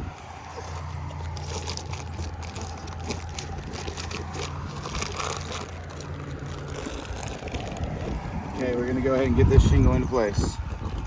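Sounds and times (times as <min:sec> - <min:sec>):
shingle scraping and crackling: 0:00.0 - 0:11.0.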